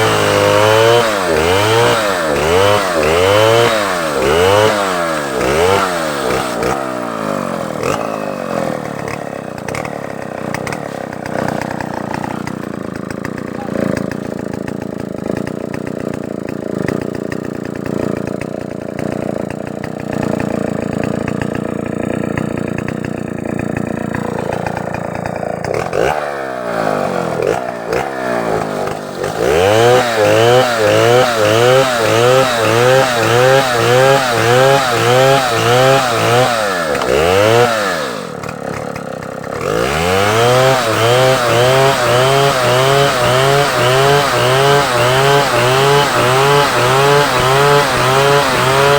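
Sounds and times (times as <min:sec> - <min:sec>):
chainsaw cutting wood: 0:00.0 - 0:48.9
chainsaw engine revving: 0:00.0 - 0:48.9.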